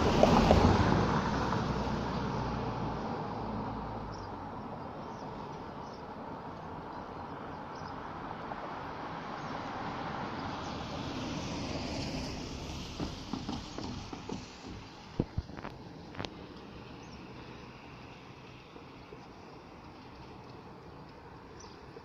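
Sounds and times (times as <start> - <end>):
passing train running noise: 0.0 - 22.0.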